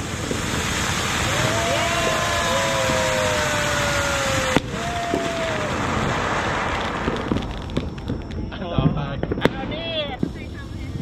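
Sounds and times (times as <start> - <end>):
falling firework whistles: 0.0 - 11.0
firework spraying sparks hissing: 0.0 - 11.0.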